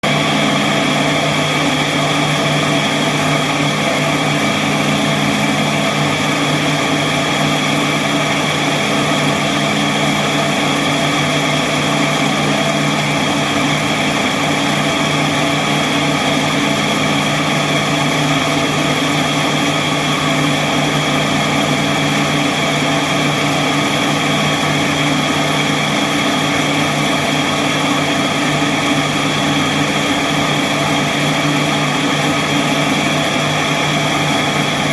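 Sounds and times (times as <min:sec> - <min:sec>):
machine humming with high whine: 0:00.0 - 0:34.9.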